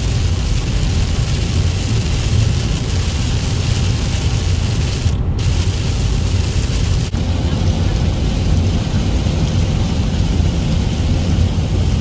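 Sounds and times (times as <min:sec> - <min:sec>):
heavy rain on windshield: 0:00.0 - 0:12.0
road and tyre rumble: 0:00.0 - 0:12.0.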